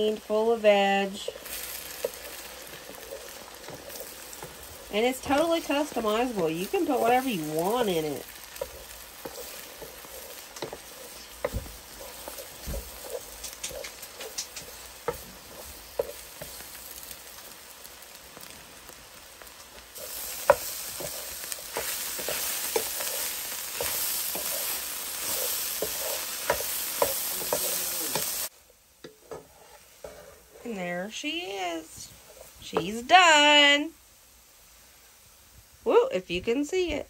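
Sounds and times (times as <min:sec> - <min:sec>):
wooden spatula scraping a pan: 0:00.0 - 0:33.2
eggs sizzling in a skillet: 0:00.0 - 0:37.0.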